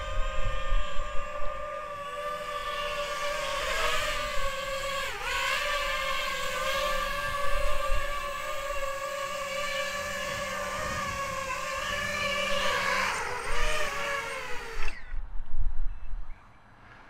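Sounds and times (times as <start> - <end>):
drone motors whining: 0.0 - 15.3.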